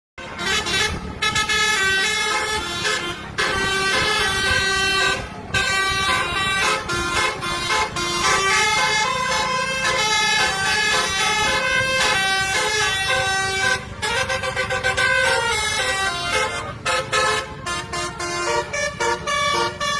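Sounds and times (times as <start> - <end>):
bus horn playing melody: 0.2 - 19.9.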